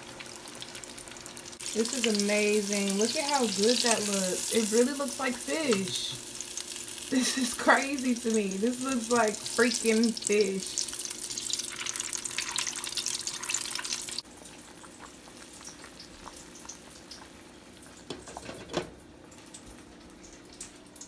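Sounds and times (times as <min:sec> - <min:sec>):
deep-frying sizzle: 0:00.0 - 0:21.0
pot simmering quietly: 0:00.0 - 0:21.0.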